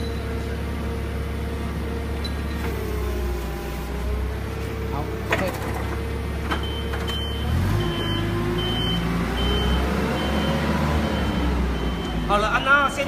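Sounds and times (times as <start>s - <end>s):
forklift engine humming: 0.0s - 13.0s.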